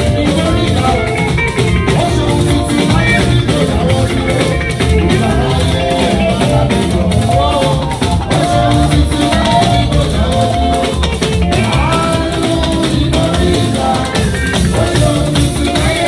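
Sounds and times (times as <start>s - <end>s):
drum beat: 0.0s - 16.0s
live band playing: 0.0s - 16.0s
man singing: 0.0s - 16.0s.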